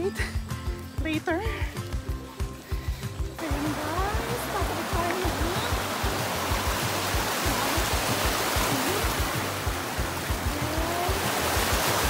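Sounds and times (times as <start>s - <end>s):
background music: 0.0s - 12.0s
stream rushing over rocks: 2.3s - 12.0s.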